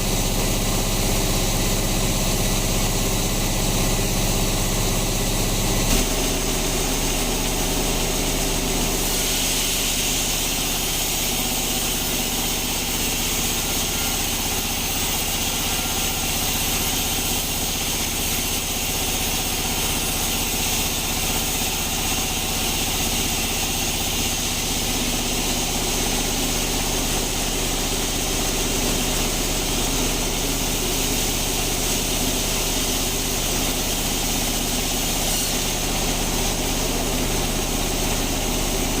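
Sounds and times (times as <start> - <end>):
bandsaw running: 0.0 - 39.0.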